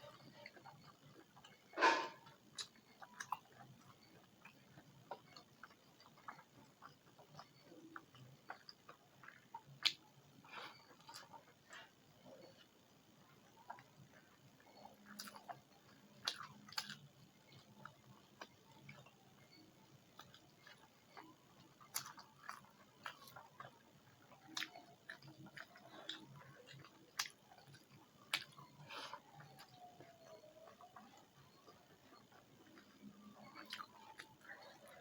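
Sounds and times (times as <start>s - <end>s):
chewing and biting food: 0.0s - 35.0s.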